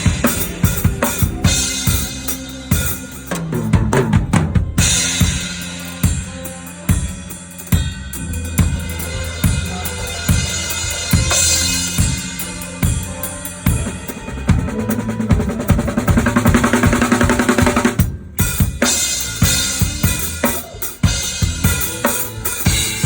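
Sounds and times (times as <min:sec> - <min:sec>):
band sustained low notes: 0:00.0 - 0:23.0
drum kit playing: 0:00.0 - 0:23.0.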